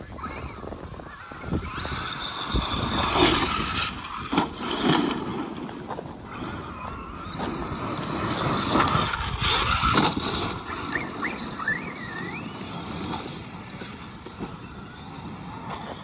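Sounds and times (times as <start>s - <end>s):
rc trucks driving on gravel: 0.0s - 16.0s.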